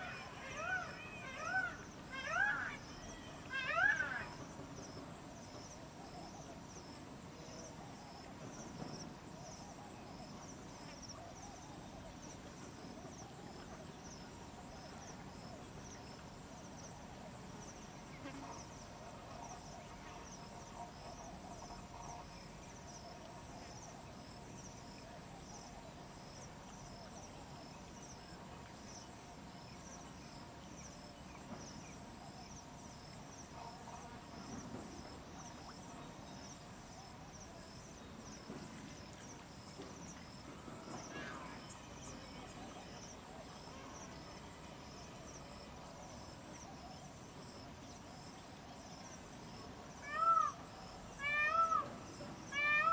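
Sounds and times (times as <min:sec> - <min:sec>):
faint outdoor background: 0:00.0 - 0:52.9
insect chirping: 0:00.0 - 0:52.9.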